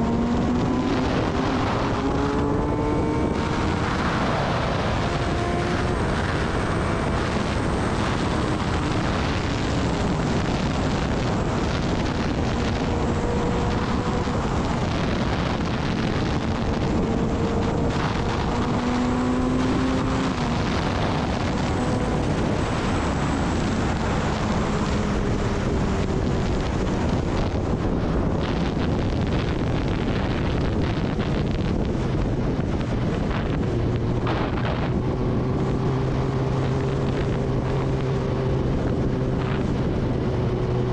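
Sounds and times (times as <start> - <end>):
motorcycle engine cruising: 0.0 - 40.9
wind rushing over microphone: 0.0 - 40.9.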